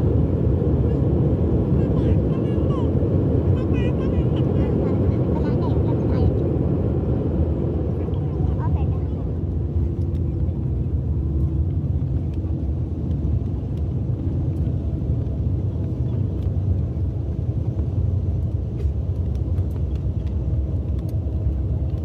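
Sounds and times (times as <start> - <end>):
low rumble of jet engines and wheels: 0.0 - 22.0.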